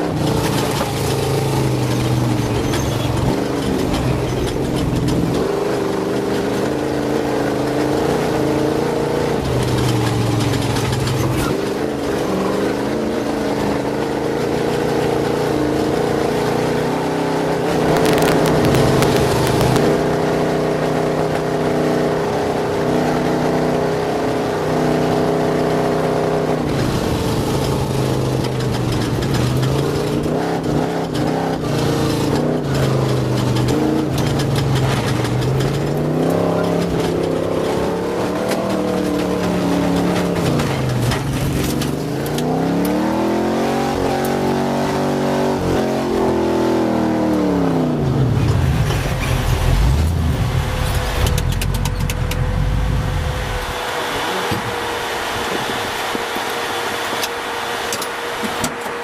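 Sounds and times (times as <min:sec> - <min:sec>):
race engine running hard: 0:00.0 - 0:59.0.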